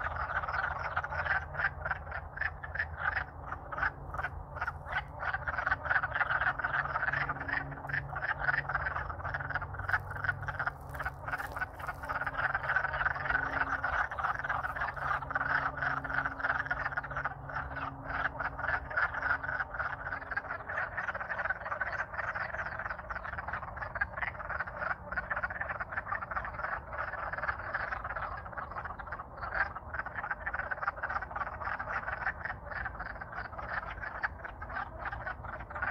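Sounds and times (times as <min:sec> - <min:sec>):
chorus of frogs calling: 0:00.0 - 0:35.9.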